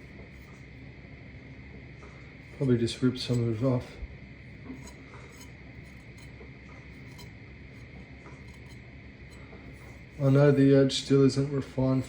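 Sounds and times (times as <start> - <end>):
faint hum and hiss: 0.0 - 12.0.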